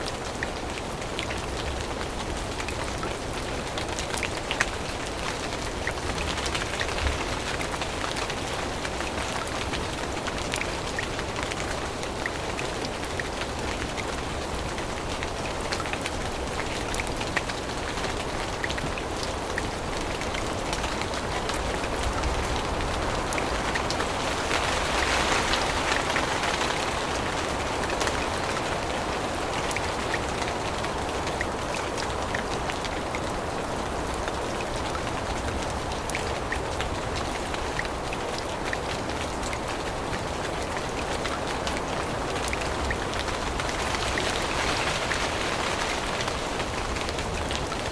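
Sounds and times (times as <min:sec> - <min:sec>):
rain falling on leaves: 0:00.0 - 0:47.9.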